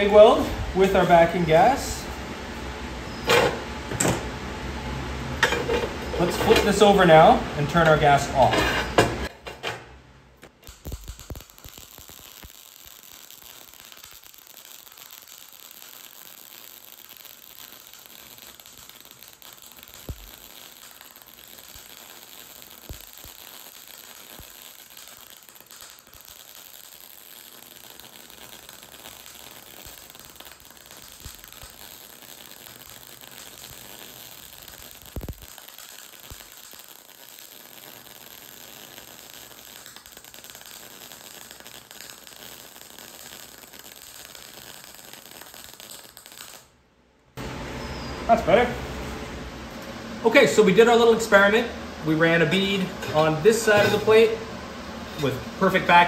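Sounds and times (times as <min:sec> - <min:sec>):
welding arc hissing: 0:00.0 - 0:04.4, 0:05.1 - 0:09.4, 0:10.4 - 0:46.8, 0:47.4 - 0:56.0
welding arc pops: 0:05.4 - 0:46.8, 0:49.7 - 0:54.4.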